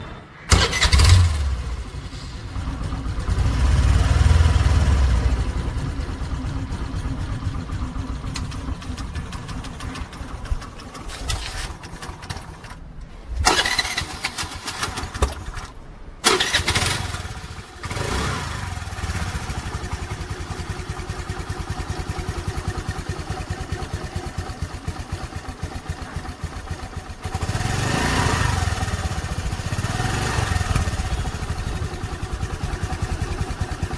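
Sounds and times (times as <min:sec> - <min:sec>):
scooter engine starting and idling: 0:00.5 - 0:33.9.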